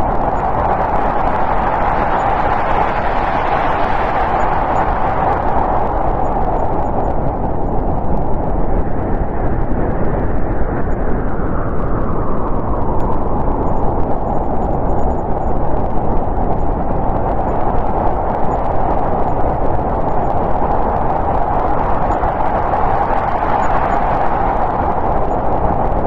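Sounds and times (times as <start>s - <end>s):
snowstorm wind rushing: 0.0s - 26.0s.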